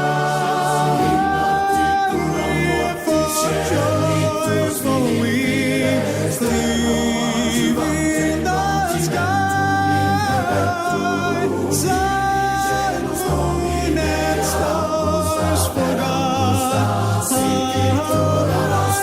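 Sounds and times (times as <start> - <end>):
choir singing a cappella: 0.0 - 19.0.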